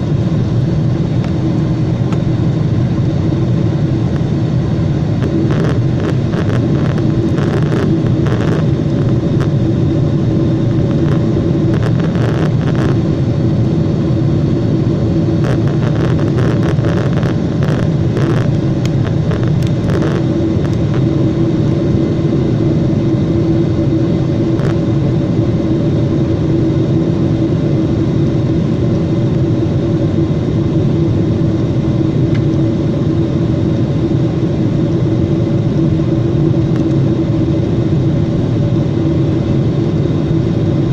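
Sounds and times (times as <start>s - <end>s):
airplane cabin engine drone: 0.0s - 40.9s.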